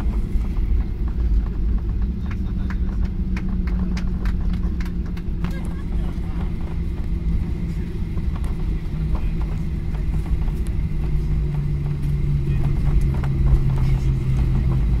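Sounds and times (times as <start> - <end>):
jet engines rumbling: 0.0 - 15.0
wheels rolling on tarmac: 0.0 - 15.0.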